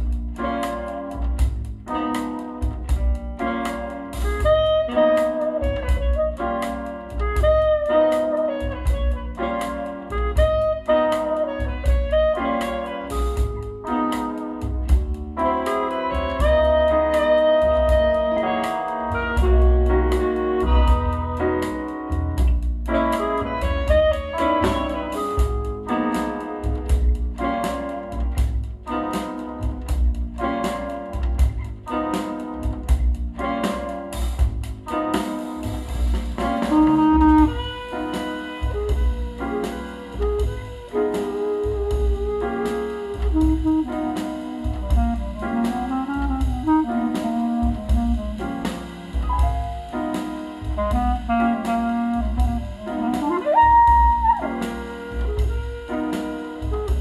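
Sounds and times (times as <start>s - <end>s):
saxophone melody: 0.0s - 35.8s, 36.4s - 57.0s
bass: 0.0s - 57.0s
drums: 0.0s - 57.0s
piano chords: 0.0s - 57.0s.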